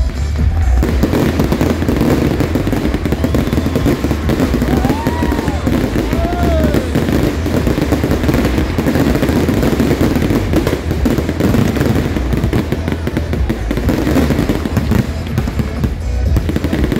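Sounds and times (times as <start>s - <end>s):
fireworks bangs and crackling: 0.0s - 16.9s.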